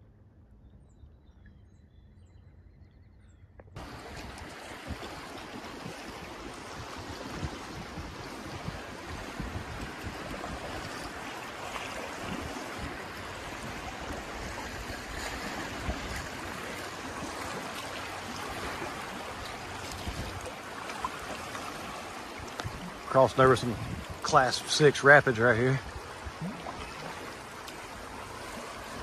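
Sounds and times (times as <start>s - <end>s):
river water rushing through rapids: 3.8s - 29.0s.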